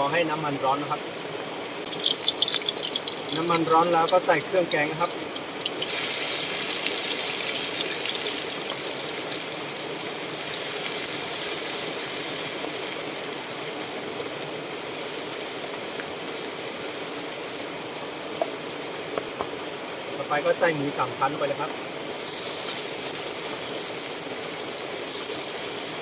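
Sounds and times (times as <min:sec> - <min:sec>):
curry paste sizzling in oil: 0:01.7 - 0:19.5, 0:20.4 - 0:26.0.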